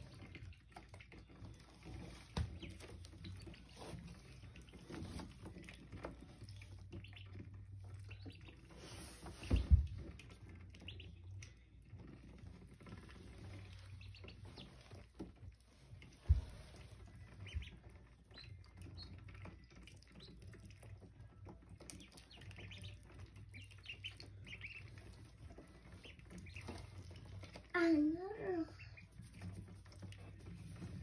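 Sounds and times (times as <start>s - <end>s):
ducklings peeping: 0.0s - 27.7s, 28.6s - 31.0s.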